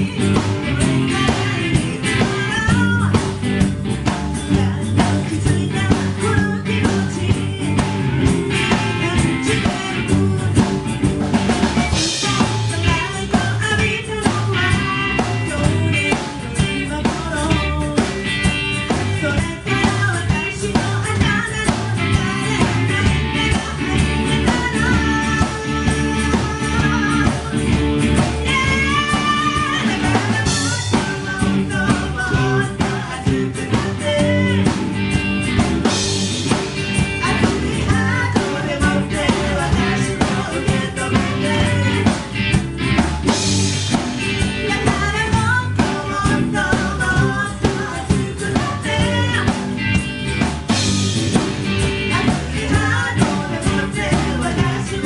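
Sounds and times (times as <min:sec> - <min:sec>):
person singing: 0:00.0 - 0:03.4, 0:04.0 - 0:11.0, 0:11.9 - 0:35.0, 0:37.0 - 0:42.5, 0:44.3 - 0:49.9, 0:51.9 - 0:55.0
drum kit: 0:00.0 - 0:55.0
electric and acoustic guitars: 0:00.0 - 0:55.0.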